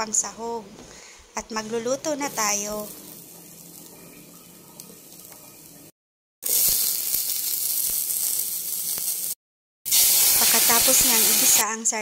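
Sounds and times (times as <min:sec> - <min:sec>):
garlic and onion sizzling in oil: 0:02.0 - 0:11.8.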